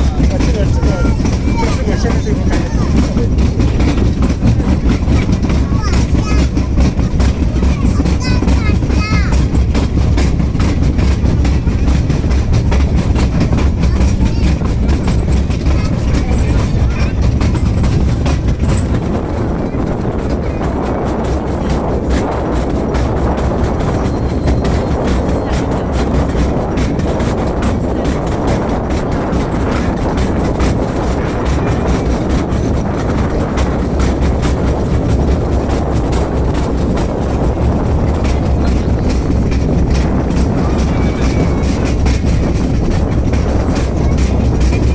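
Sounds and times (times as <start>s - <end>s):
train rumbling: 0.0s - 44.9s
wheels clattering over rails: 0.0s - 44.9s.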